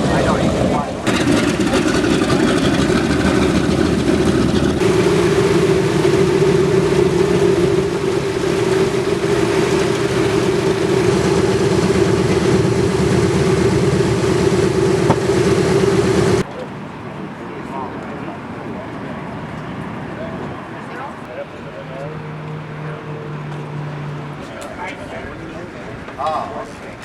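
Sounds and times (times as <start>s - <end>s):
piston aircraft engines droning: 0.0s - 27.0s.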